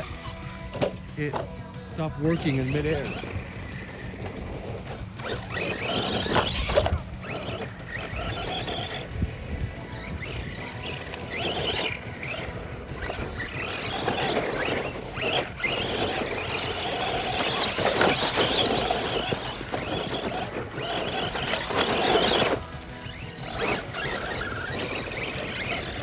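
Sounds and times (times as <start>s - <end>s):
rc car motors whining: 0.0s - 26.0s
tyres rushing on rough ground: 0.0s - 26.0s.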